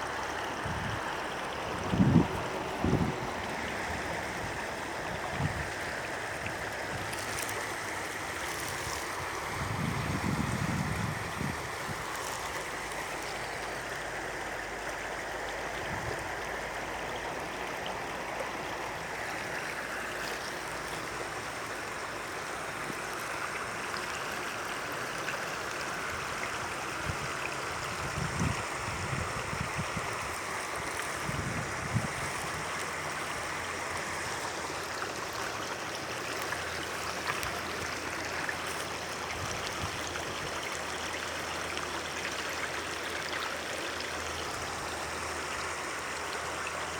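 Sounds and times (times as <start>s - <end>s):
stream babbling over stones: 0.0s - 46.9s.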